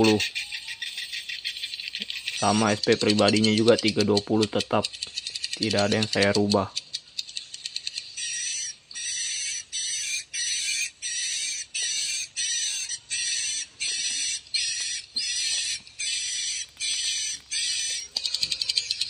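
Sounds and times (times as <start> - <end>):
recorded bird chirps through speakers: 0.0 - 19.0.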